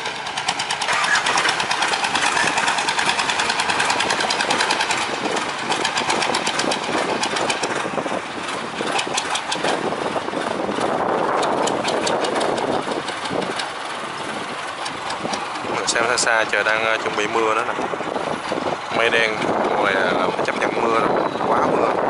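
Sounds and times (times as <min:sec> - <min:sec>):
boat engine knocking: 0:00.0 - 0:22.0
cooling water spouting: 0:00.0 - 0:22.0.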